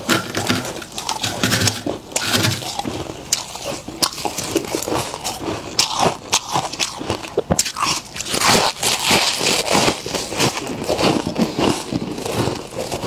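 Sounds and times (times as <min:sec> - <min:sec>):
frost scraping and crackling: 0:00.0 - 0:13.0
teeth crunching ice: 0:00.0 - 0:13.0.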